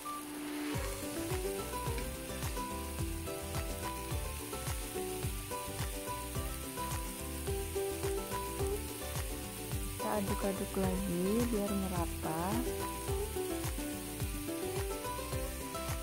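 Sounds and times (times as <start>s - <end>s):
background music with a beat: 0.0s - 16.0s
sauce sizzling in a frying pan: 0.0s - 16.0s.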